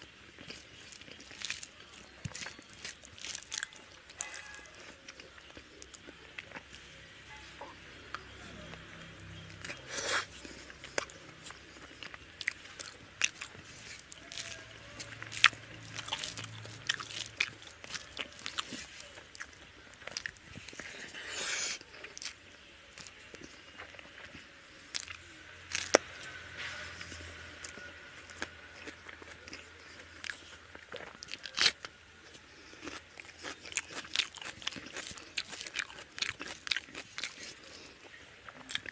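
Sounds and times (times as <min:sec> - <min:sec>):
chewing and biting: 0:00.0 - 0:38.9.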